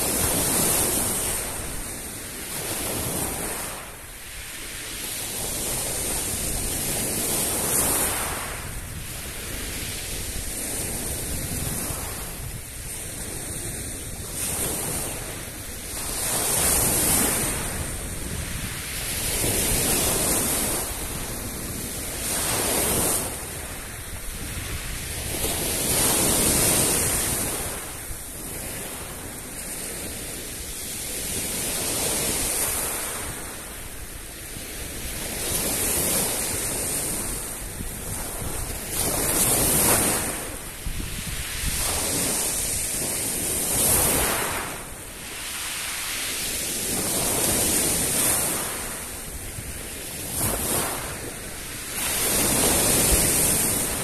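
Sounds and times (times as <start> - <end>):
small waves breaking on shore: 0.0 - 54.0.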